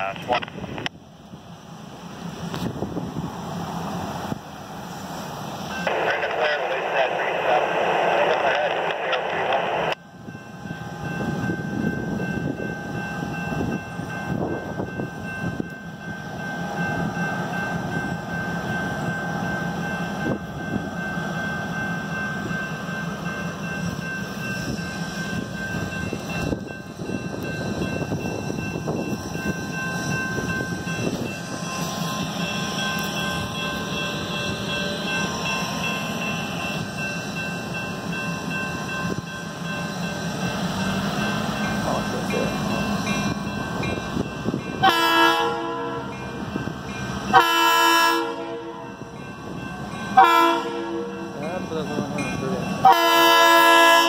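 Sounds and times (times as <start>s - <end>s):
locomotive engine rumble: 0.0s - 54.0s.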